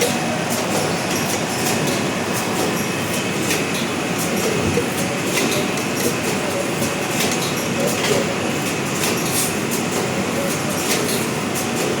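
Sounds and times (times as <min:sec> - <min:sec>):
machine clacks: 0:00.0 - 0:04.6, 0:05.2 - 0:12.0
printing machine mechanical din: 0:00.0 - 0:12.0.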